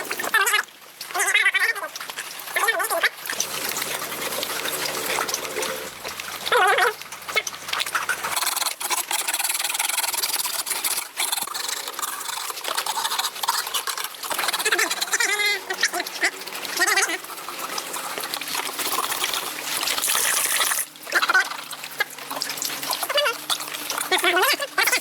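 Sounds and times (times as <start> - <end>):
water running and splashing: 0.0 - 25.0.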